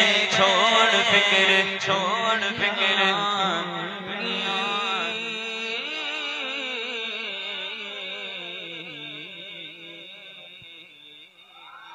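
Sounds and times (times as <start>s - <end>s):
man singing unaccompanied: 0.0s - 11.6s.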